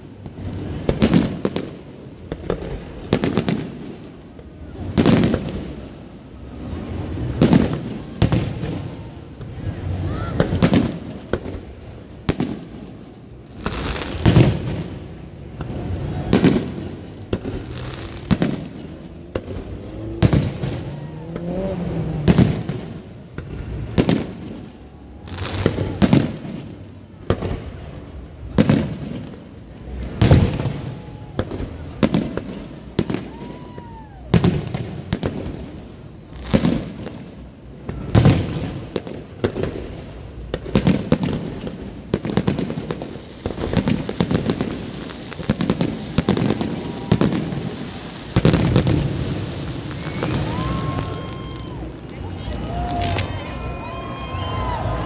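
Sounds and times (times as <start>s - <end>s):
fireworks booming: 0.0s - 55.0s
fireworks crackle: 0.0s - 55.0s
fireworks whistling: 4.6s - 55.0s.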